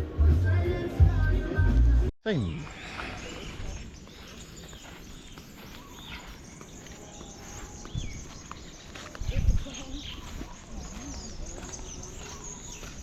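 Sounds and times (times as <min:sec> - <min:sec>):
birds whistling: 0:02.4 - 0:13.0.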